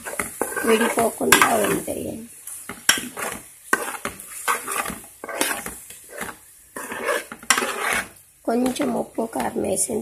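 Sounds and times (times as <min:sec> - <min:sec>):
metal spoon scraping a pan: 0:00.0 - 0:02.1, 0:02.7 - 0:10.0.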